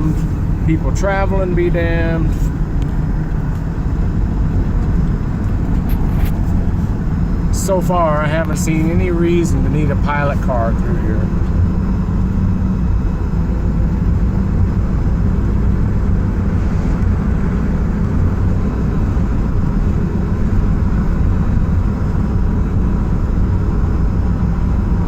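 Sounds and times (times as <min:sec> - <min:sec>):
tyres on road: 0:00.0 - 0:25.0
van engine rumble inside cab: 0:00.0 - 0:25.0.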